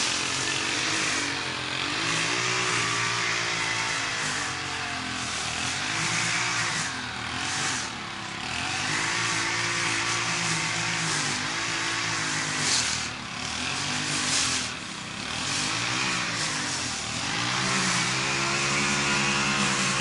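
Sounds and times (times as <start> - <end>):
grass cutting hiss: 0.0 - 20.0
lawn mower engine running: 0.0 - 20.0.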